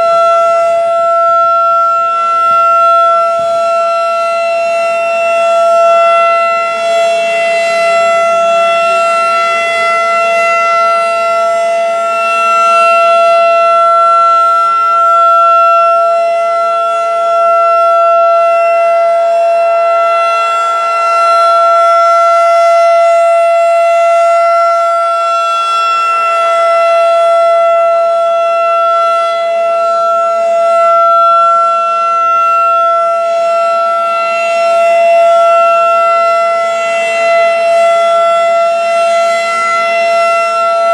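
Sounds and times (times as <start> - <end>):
outdoor warning siren steady tone: 0.0 - 40.9.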